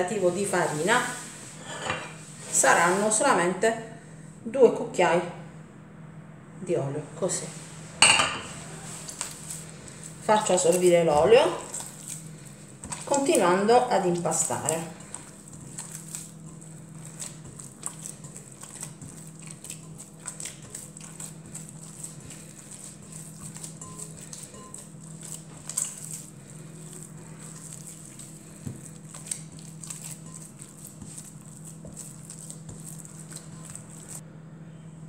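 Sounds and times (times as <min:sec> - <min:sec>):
hands kneading dough: 0:00.0 - 0:03.7, 0:07.2 - 0:34.2
faint steady hum: 0:00.0 - 0:35.0.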